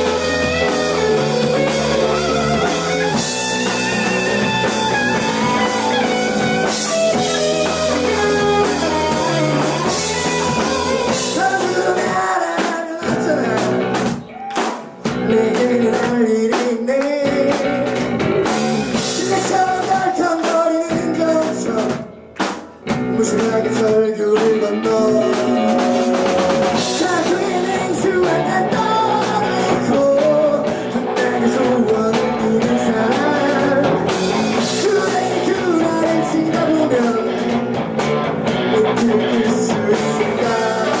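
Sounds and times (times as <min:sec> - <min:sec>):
person singing: 0:00.0 - 0:18.1, 0:18.9 - 0:22.1, 0:22.9 - 0:37.7, 0:38.5 - 0:41.0
drum kit: 0:00.0 - 0:41.0
electric guitar: 0:00.0 - 0:41.0.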